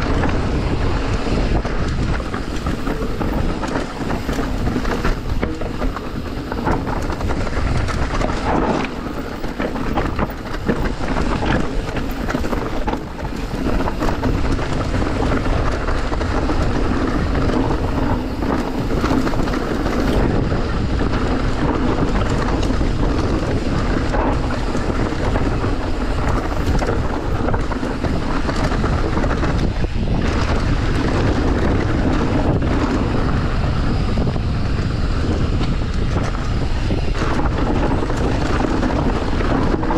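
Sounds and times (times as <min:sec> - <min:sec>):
bike knocks and rattles: 0:00.0 - 0:39.9
bike rumbling on rough trail: 0:00.0 - 0:39.9
wind buffeting microphone: 0:00.0 - 0:39.9.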